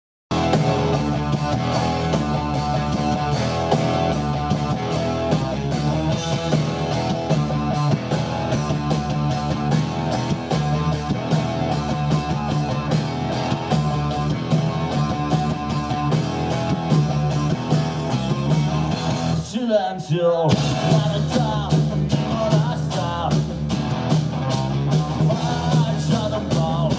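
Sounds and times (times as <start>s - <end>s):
drum kit beat: 0.3s - 19.5s, 20.5s - 26.9s
electric guitars: 0.3s - 19.7s, 20.5s - 26.9s.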